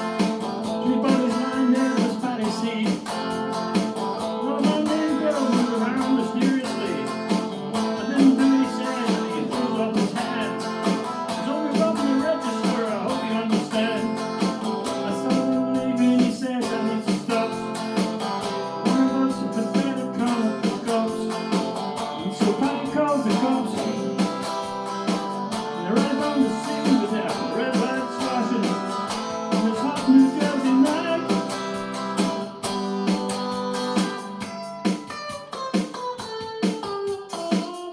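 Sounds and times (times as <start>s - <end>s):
acoustic guitar strumming: 0.0s - 37.9s.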